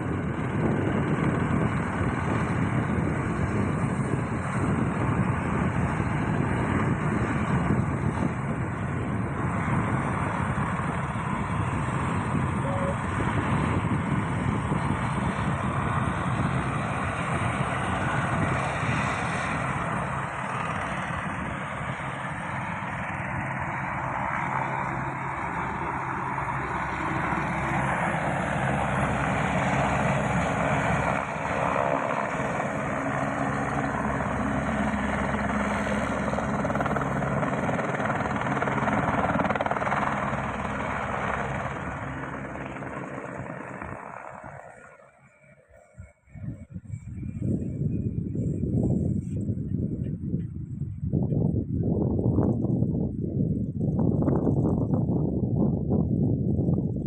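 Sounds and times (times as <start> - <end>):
helicopter engine and rotor: 0.0 - 51.2, 52.0 - 57.0.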